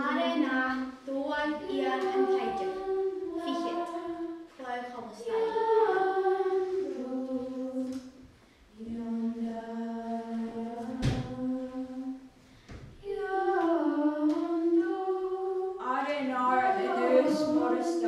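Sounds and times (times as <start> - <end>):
girls singing unaccompanied: 0.0 - 18.0.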